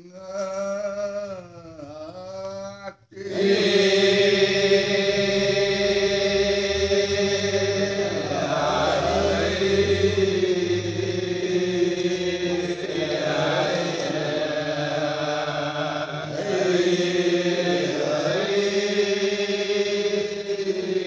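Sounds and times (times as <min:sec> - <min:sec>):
low pulsing vocal part: 0:00.0 - 0:21.0
men singing in unison: 0:02.2 - 0:21.0.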